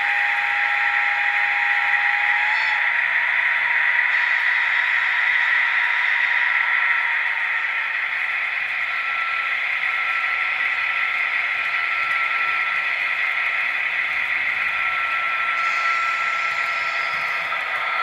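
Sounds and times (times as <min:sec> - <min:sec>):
faint motor whine: 0:00.0 - 0:18.0
model train motors whirring: 0:00.0 - 0:18.0.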